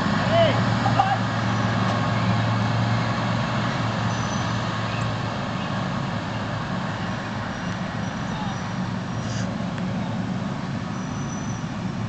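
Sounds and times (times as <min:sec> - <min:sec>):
lawn mower engines running: 0:00.0 - 0:12.0.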